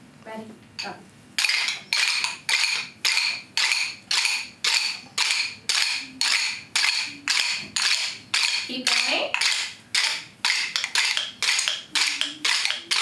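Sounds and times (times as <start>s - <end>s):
rhythm sticks tapping: 0.8s - 13.0s.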